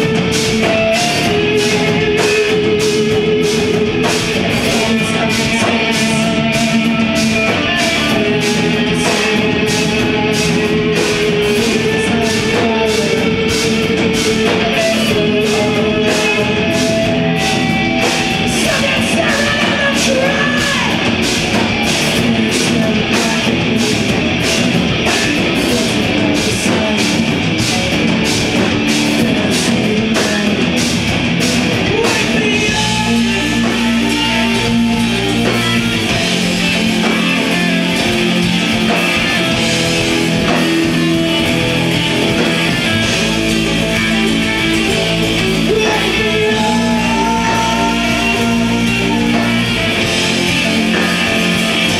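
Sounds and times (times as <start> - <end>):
metal band playing: 0.0 - 51.9.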